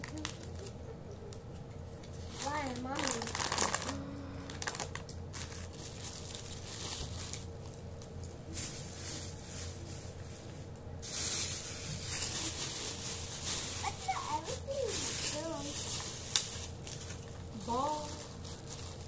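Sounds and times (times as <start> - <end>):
plastic packaging crinkling: 0.0 - 0.8, 2.1 - 19.0
faint steady hum: 0.0 - 19.0.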